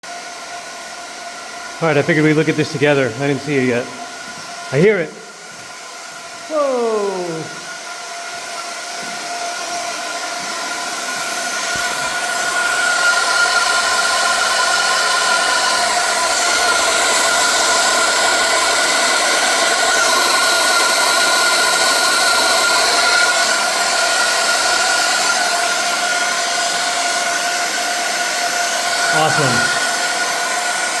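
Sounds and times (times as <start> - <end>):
steam hissing and whistling: 0.1 - 31.0.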